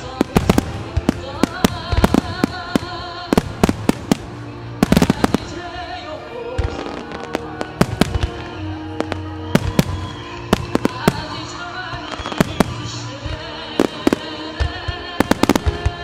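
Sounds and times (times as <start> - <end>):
fireworks bursting: 0.0 - 16.0
music: 0.0 - 16.0.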